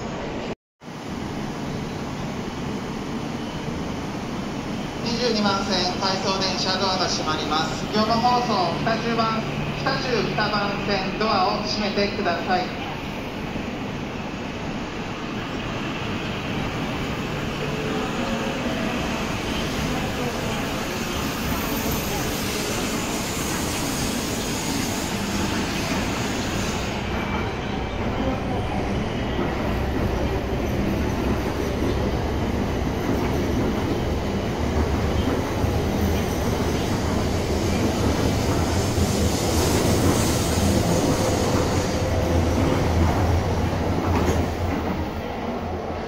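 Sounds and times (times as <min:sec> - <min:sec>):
train rumbling at low speed: 0:00.0 - 0:46.0.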